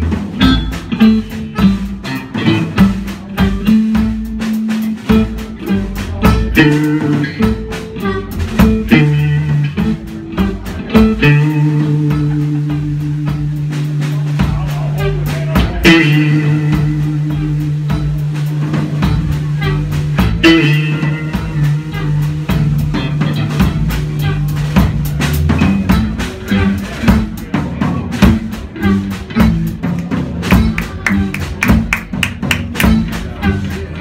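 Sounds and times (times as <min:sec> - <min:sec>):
blues-rock band playing: 0:00.0 - 0:34.0.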